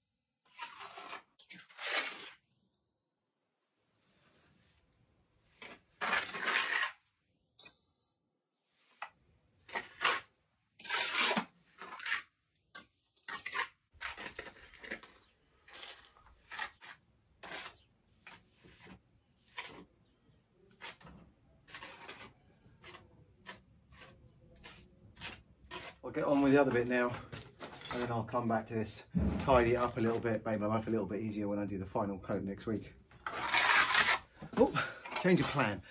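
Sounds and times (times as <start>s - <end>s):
trowel scraping render: 0.4s - 2.5s, 5.5s - 7.9s, 8.8s - 28.5s, 29.1s - 31.0s, 33.1s - 35.8s.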